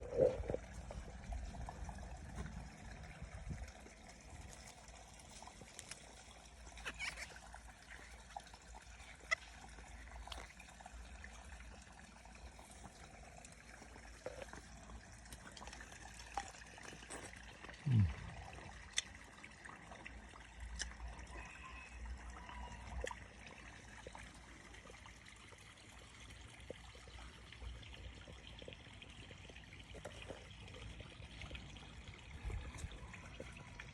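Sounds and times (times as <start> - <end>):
water trickling: 0.0 - 33.9.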